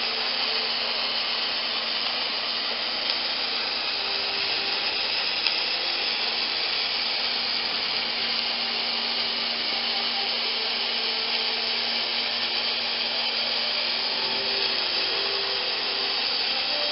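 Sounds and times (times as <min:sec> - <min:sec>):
faint steady hum: 0:00.0 - 0:16.9
welding arc hissing: 0:00.0 - 0:16.9.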